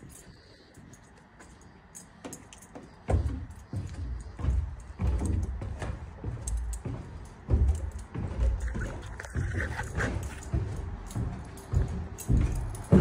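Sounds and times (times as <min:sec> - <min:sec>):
footsteps on wooden stairs: 0:00.0 - 0:13.0.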